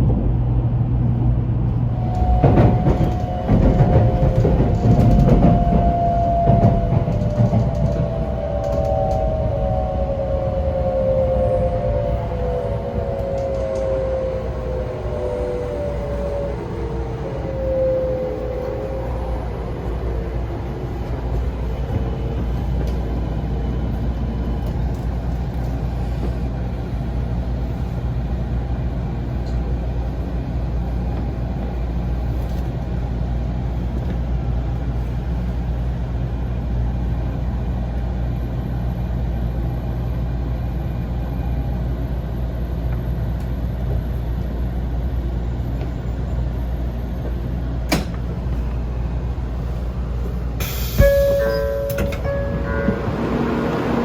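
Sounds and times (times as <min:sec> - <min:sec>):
train car rumble and hum: 0:00.0 - 0:54.0.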